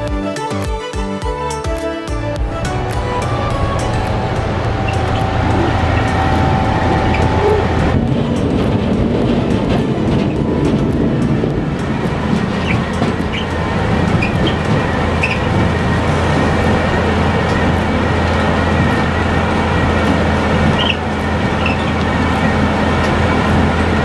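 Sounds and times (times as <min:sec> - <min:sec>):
engine rumble: 0:02.2 - 0:24.0
machinery clatter: 0:02.4 - 0:24.0.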